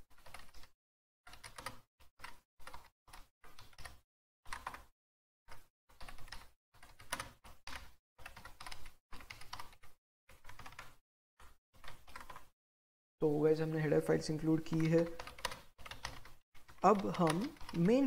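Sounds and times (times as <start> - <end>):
typing on computer keyboard: 0.1 - 0.7, 1.3 - 4.9, 5.5 - 12.5, 14.7 - 18.0.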